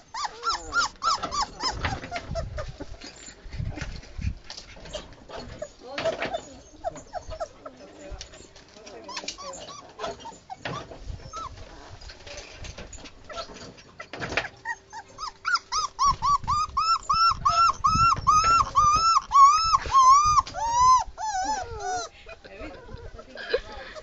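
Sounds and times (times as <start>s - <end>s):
puppy whining and crying: 0.0s - 3.4s, 4.9s - 12.0s, 13.3s - 23.2s.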